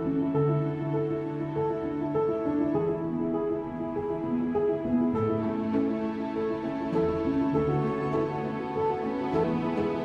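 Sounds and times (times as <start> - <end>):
soft slow instrumental music: 0.0 - 10.0.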